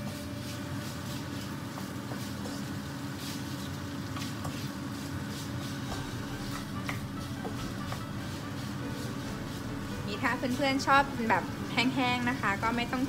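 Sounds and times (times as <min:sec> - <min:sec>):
food sizzling in a wok: 0:00.0 - 0:13.0
steady low hum: 0:00.0 - 0:13.0
wooden spatula scraping a wok: 0:00.1 - 0:13.0.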